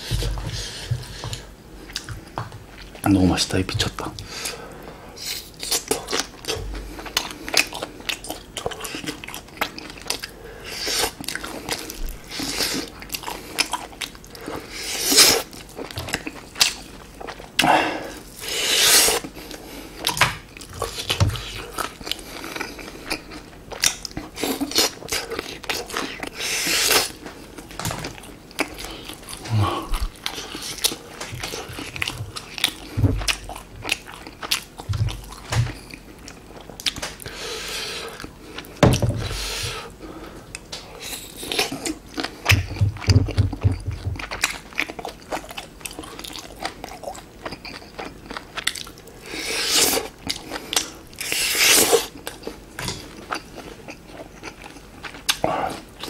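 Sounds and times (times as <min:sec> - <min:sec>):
close-miked chewing: 0:00.0 - 0:56.0.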